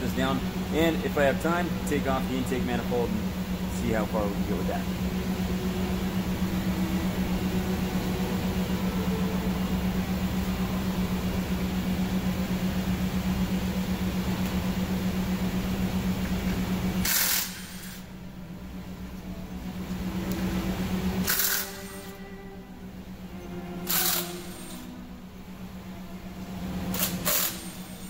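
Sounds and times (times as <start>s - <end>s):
machine low hum: 0.0s - 28.0s.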